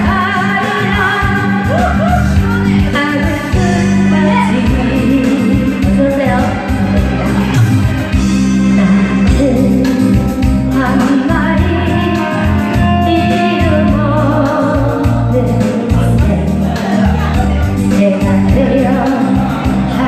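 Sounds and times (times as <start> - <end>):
instrumental accompaniment with bass: 0.0 - 20.0
person singing live: 0.0 - 20.0.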